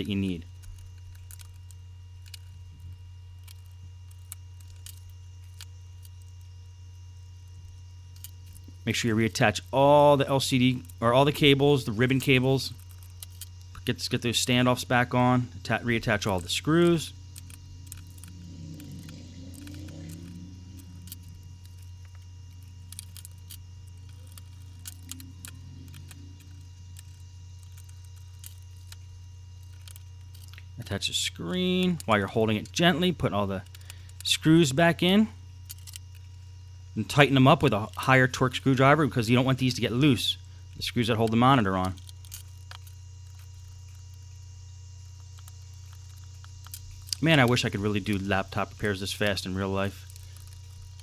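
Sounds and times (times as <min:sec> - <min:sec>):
low background hum: 0:00.0 - 0:51.0.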